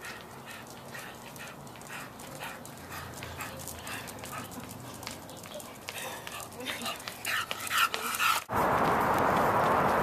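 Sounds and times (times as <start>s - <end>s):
dog panting hard: 0.0s - 8.5s.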